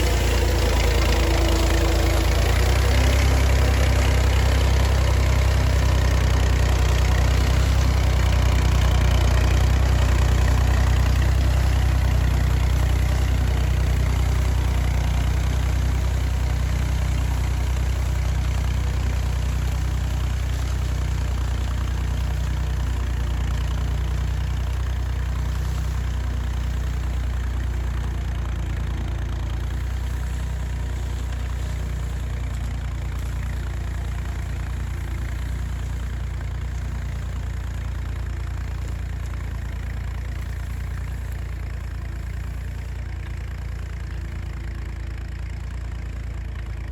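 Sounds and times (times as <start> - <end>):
tractor engine idling: 0.0 - 46.9.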